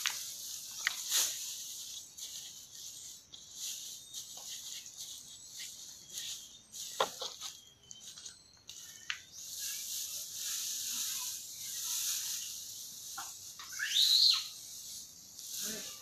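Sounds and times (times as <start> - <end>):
dry grass rustling: 0.0 - 16.0.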